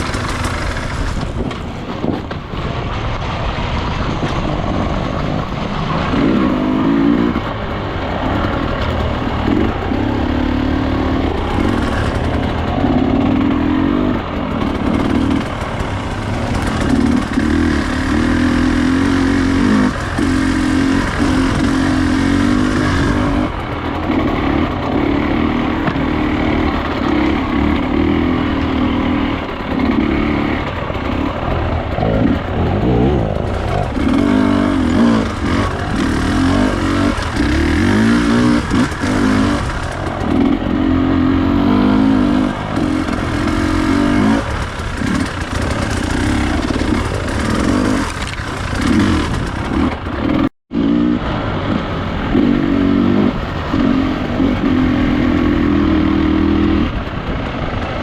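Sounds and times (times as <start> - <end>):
dirt bike engine revving: 0.0 - 2.6, 4.3 - 58.0.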